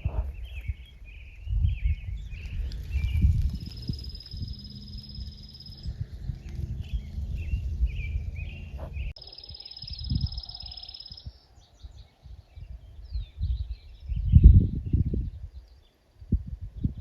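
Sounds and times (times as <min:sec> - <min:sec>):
high steady bird trill: 0:00.0 - 0:14.4
birds chirping: 0:00.0 - 0:16.0
wind rumble on microphone: 0:00.0 - 0:17.0.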